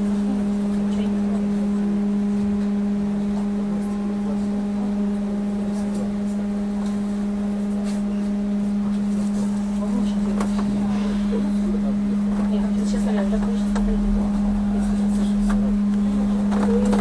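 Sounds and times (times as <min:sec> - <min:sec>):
trolleybus electrical hum: 0:00.0 - 0:17.0.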